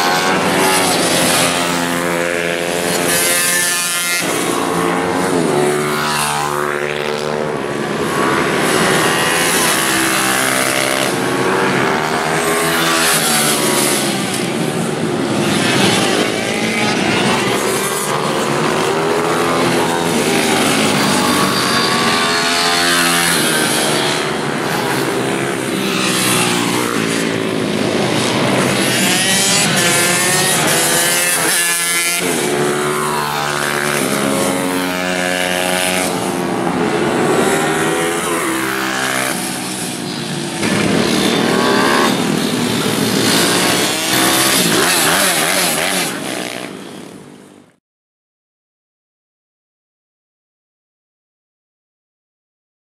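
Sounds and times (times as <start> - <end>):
small motorbikes revving past: 0.0 - 47.4.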